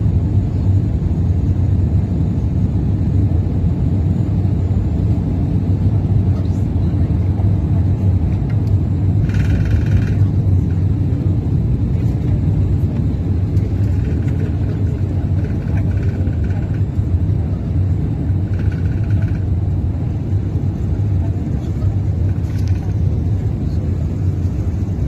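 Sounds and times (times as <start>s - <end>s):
airliner engine rumble: 0.0s - 25.0s.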